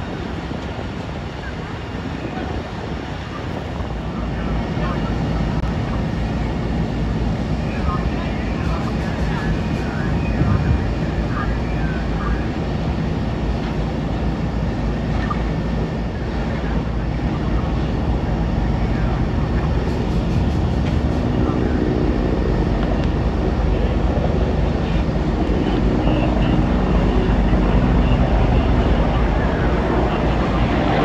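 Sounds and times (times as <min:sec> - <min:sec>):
fire engine pumps running: 0:00.0 - 0:31.0
humming engine tone: 0:04.8 - 0:31.0.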